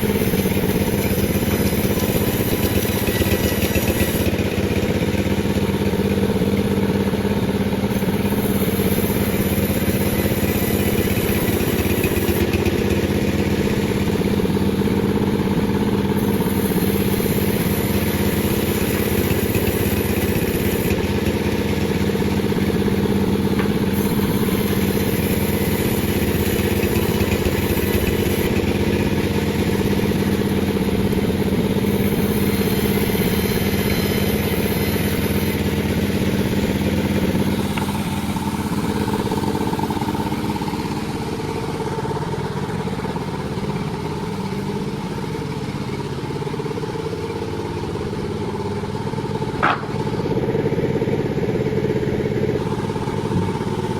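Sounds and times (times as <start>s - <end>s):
chainsaw engine running: 0.0s - 53.9s.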